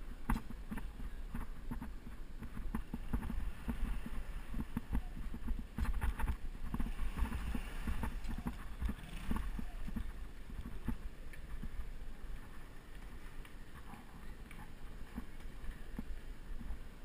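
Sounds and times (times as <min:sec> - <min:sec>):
wind noise on camera: 0:00.0 - 0:17.0.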